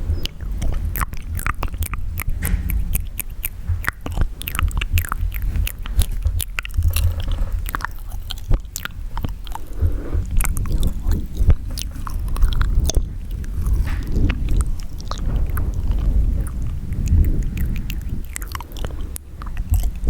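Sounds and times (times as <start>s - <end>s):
moist squishing: 0.0s - 20.0s
wet mouth clicks and smacks: 0.0s - 20.0s.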